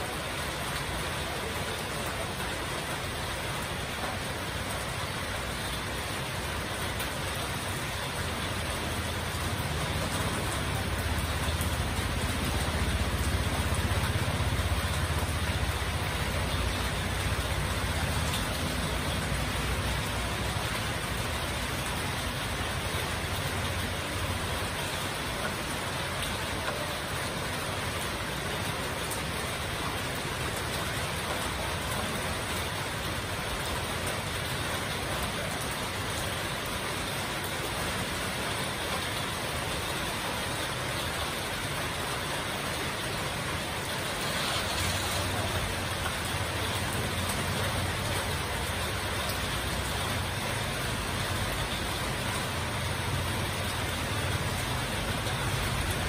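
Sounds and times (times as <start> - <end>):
heavy rain on metal roofs: 0.0 - 56.0.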